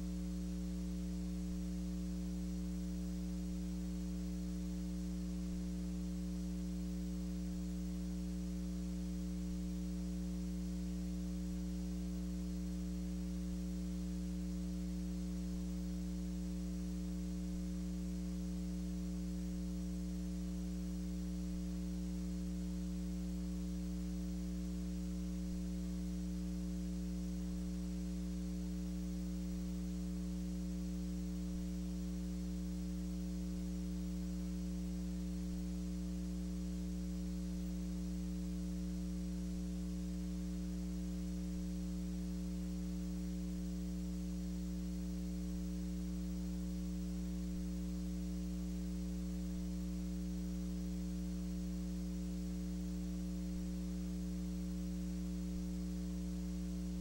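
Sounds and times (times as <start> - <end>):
electrical mains hum: 0.0 - 57.0
faint hiss: 0.0 - 57.0.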